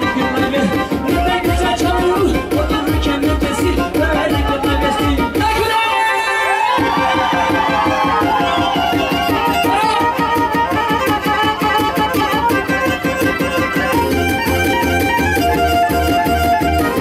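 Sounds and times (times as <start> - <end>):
fast folk dance music: 0.0 - 17.0.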